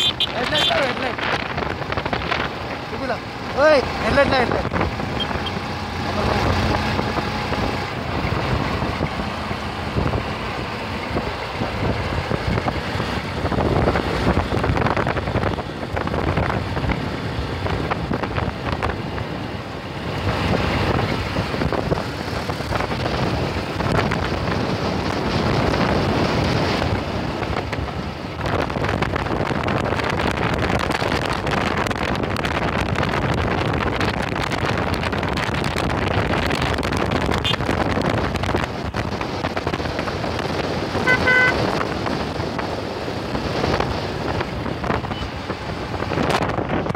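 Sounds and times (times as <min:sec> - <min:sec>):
motorcycle engines running: 0:00.0 - 0:46.9
wind buffeting microphone: 0:00.0 - 0:46.9.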